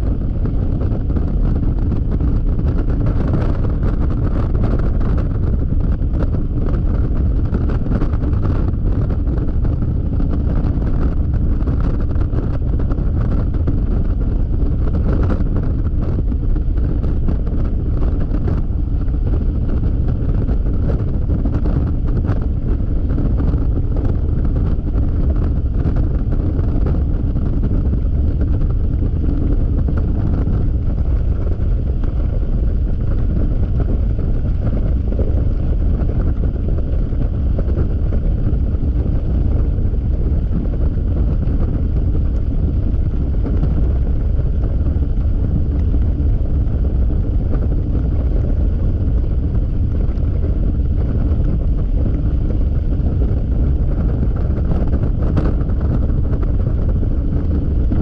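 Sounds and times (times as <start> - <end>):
wind roar on microphone: 0.0 - 58.0.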